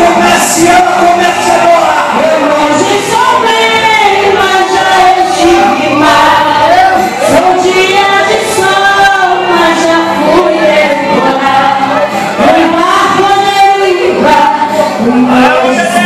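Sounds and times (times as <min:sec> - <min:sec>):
woman singing into microphone: 0:00.0 - 0:16.0.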